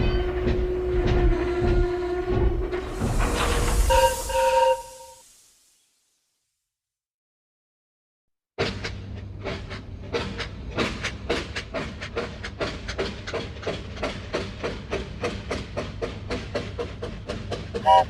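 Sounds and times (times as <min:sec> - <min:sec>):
steam locomotive chuffing: 0:00.2 - 0:05.5, 0:08.6 - 0:18.0.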